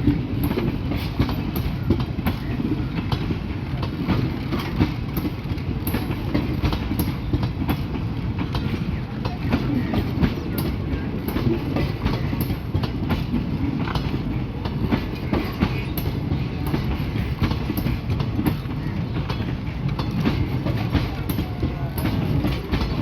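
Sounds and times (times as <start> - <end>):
clicking over rail joints: 0.0 - 23.0
train wheels rumbling on rails: 0.0 - 23.0.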